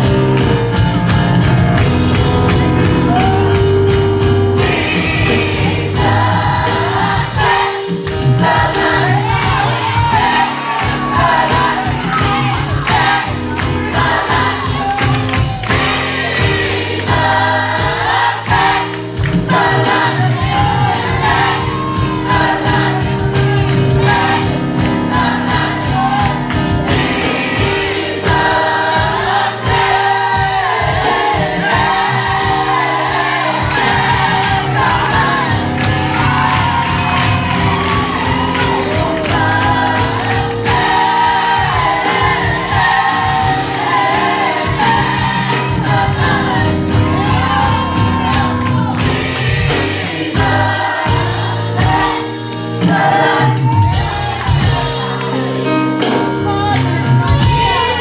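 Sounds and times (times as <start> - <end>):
band with bass and drums: 0.0 - 58.0
voices singing together: 0.0 - 58.0.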